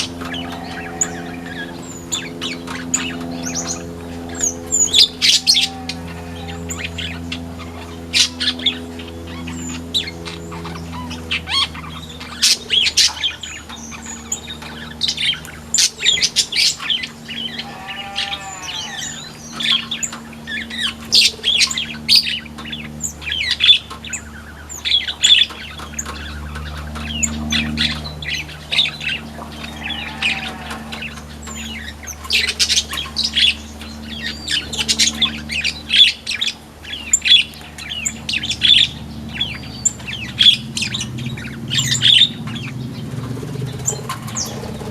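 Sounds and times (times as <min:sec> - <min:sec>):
birds chirping and squawking: 0:00.0 - 0:44.9
steady low hum: 0:00.0 - 0:44.9.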